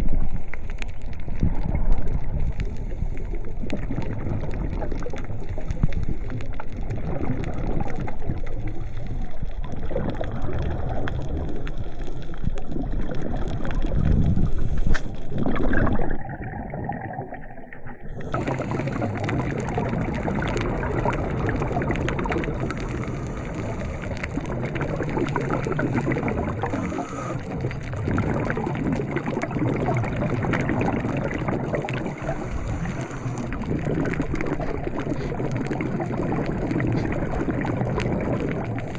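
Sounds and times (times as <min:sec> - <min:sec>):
muffled underwater noise: 0:00.0 - 0:16.2, 0:17.9 - 0:38.9
bubbling and gurgling: 0:00.0 - 0:38.9.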